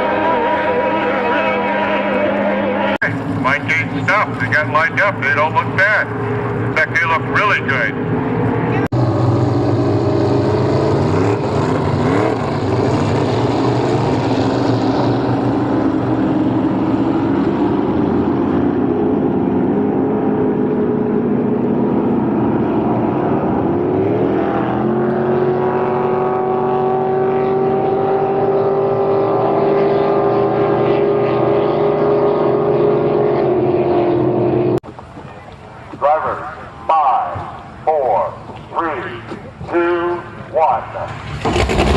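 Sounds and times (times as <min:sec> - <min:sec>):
racing boat engines: 0:00.0 - 0:41.9.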